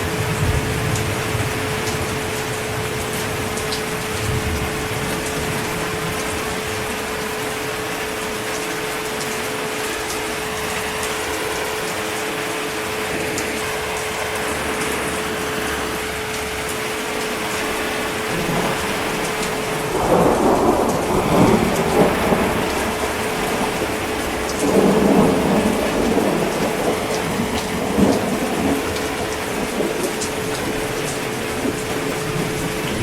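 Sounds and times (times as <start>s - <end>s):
thunder rumbling: 0.0s - 9.0s, 10.0s - 33.0s
heavy rain: 0.0s - 33.0s.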